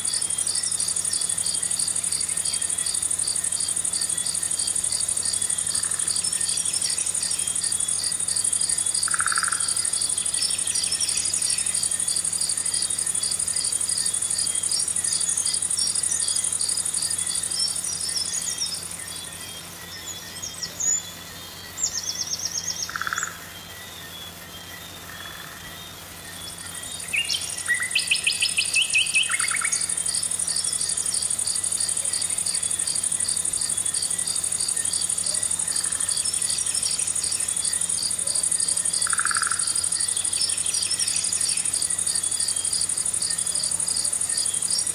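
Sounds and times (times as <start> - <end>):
fast pulsing insect call: 0.0 - 44.9
insects trilling: 0.0 - 44.9
rapid chirping calls: 0.0 - 44.9.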